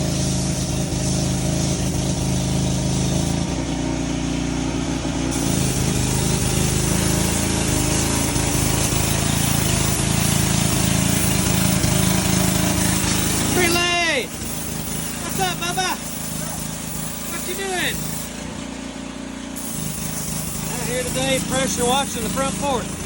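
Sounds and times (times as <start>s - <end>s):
pressure washer engine droning: 0.0s - 23.0s.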